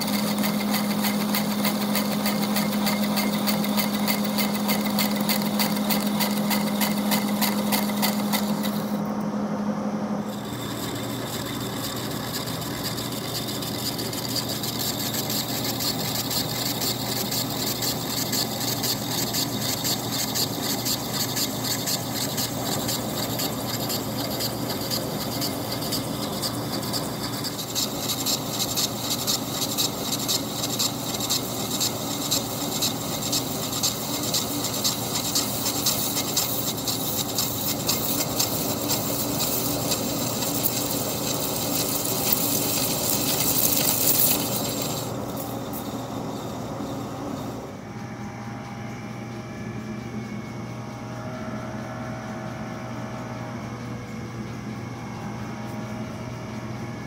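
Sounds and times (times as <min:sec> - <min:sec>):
cutting tool scraping steel: 0:00.0 - 0:09.1, 0:10.2 - 0:47.6
lathe hum: 0:00.0 - 0:57.0.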